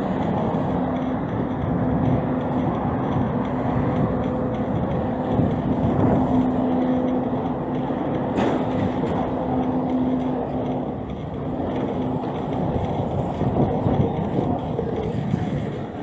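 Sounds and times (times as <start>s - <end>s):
street traffic: 0.0s - 16.0s
vehicle engine humming: 0.0s - 16.0s.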